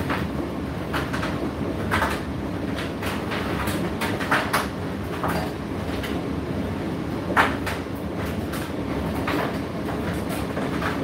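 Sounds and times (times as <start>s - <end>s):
tumble dryer drum rumbling: 0.0s - 11.0s.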